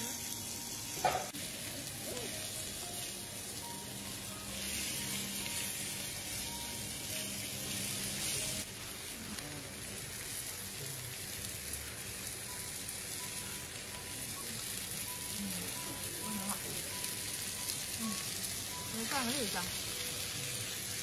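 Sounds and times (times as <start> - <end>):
beef sizzling on grill plate: 0.0 - 21.0.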